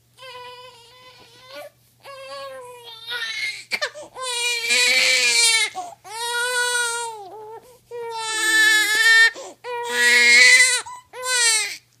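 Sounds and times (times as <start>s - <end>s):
newborn baby crying: 0.2s - 11.9s.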